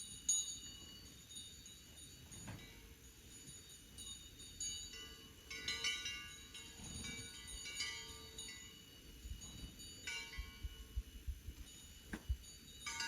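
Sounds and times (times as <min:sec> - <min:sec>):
small bells jingling: 0:00.0 - 0:13.0.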